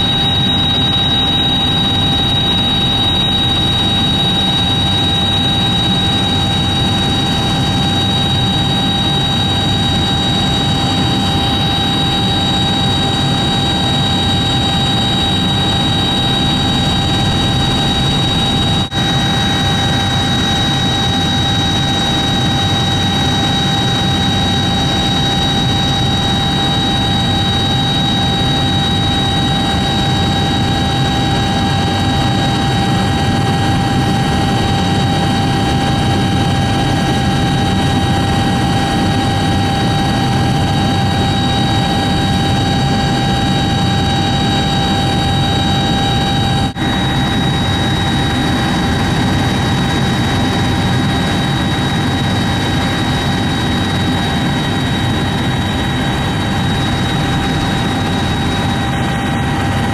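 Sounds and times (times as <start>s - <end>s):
helicopter engine and rotor noise: 0.0s - 59.9s
high whine: 0.0s - 59.9s.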